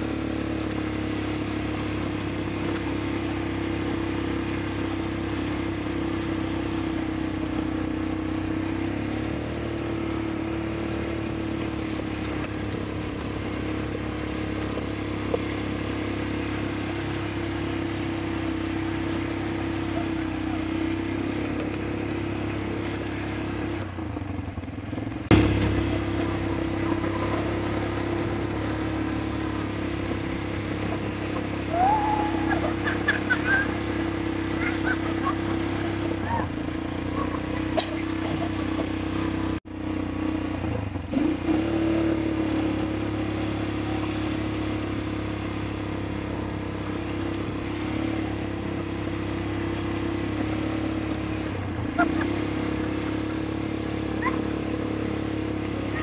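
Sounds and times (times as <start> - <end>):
atv engines running: 0.0 - 56.0
gravel and road noise: 0.0 - 56.0.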